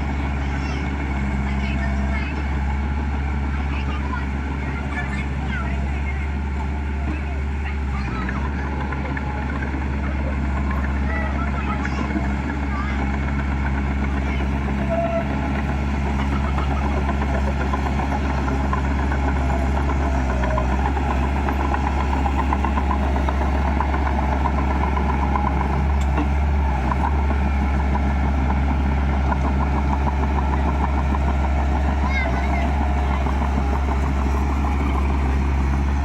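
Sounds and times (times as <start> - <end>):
diesel engine clattering: 0.0 - 36.0.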